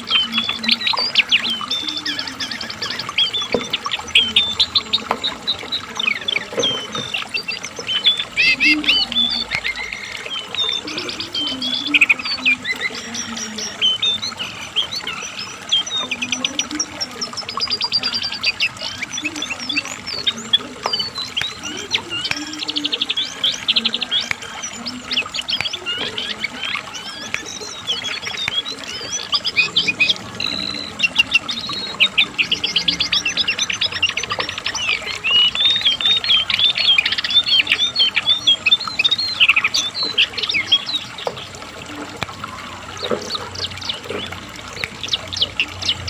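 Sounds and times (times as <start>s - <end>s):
songbird singing: 0.0s - 46.0s.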